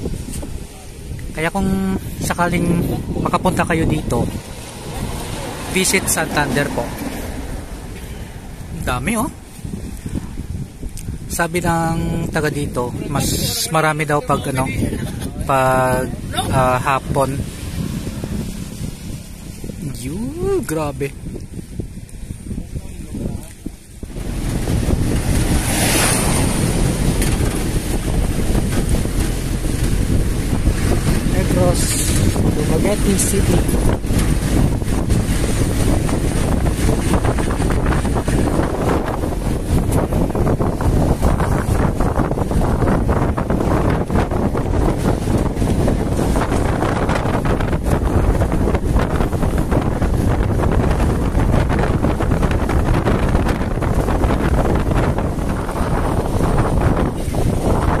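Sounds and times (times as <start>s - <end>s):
vehicle engine and road noise: 0.0s - 58.0s
wind buffeting microphone: 0.0s - 58.0s.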